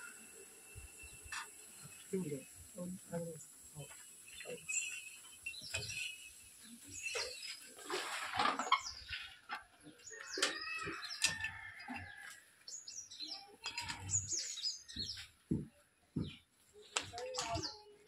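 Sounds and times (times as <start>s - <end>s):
birds chirping: 0.0s - 8.0s, 8.6s - 18.0s.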